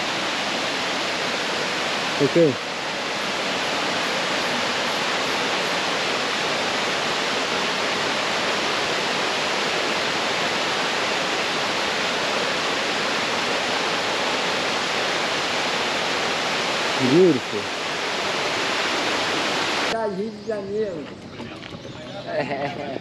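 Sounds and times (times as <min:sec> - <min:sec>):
rushing falling water: 0:00.0 - 0:20.0.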